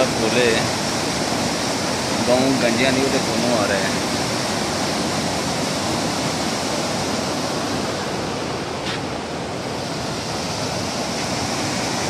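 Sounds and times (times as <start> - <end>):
turbulent water rushing: 0.0 - 12.0.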